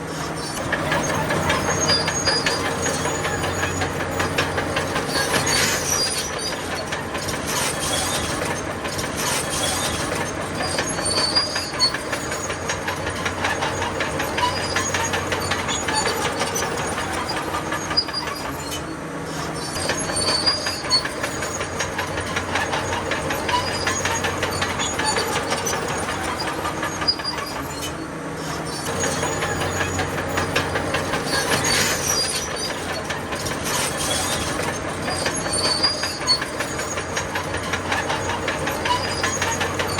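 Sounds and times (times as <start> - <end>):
diesel engine running: 0.0 - 39.9
high squeals from track rollers: 0.0 - 39.9
steel tracks clanking: 0.0 - 39.9.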